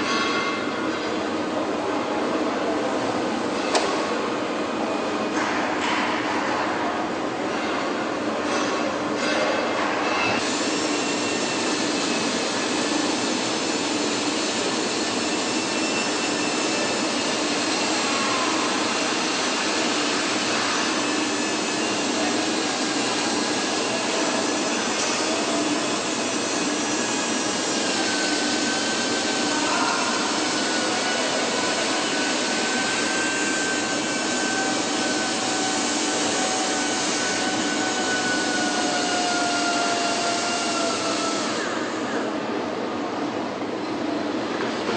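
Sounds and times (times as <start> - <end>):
factory machinery noise: 0.0 - 44.9.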